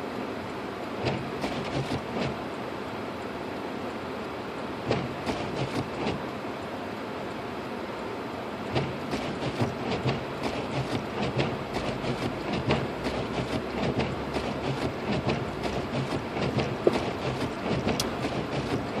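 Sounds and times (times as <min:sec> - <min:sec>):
car road noise hum: 0:00.0 - 0:19.0.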